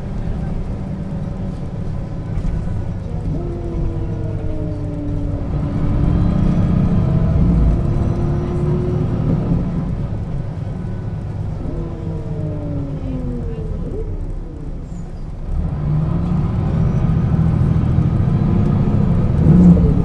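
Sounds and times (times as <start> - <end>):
bus engine rumble: 0.0 - 20.0
drivetrain whine: 0.0 - 20.0.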